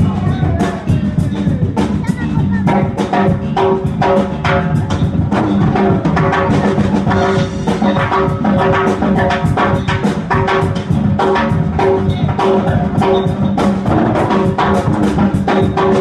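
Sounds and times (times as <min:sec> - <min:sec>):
congas: 0:00.0 - 0:16.0
drum kit: 0:00.0 - 0:16.0
electric guitar: 0:00.0 - 0:16.0.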